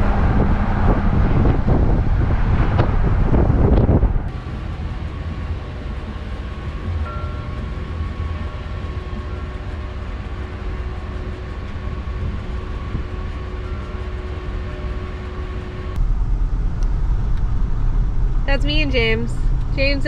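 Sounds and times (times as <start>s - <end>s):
van engine rumble: 0.0s - 20.0s
faint constant whine: 3.9s - 20.0s.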